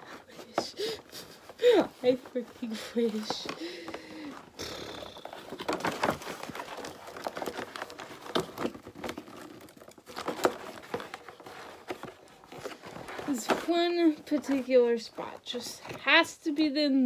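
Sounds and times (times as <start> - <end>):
cardboard box crinkling and rustling: 0.0 - 16.6.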